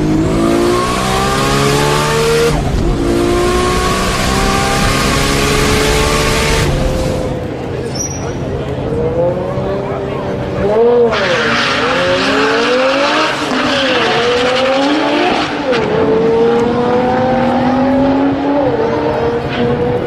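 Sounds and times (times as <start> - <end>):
car engine accelerating hard: 0.0 - 7.8, 8.4 - 20.0.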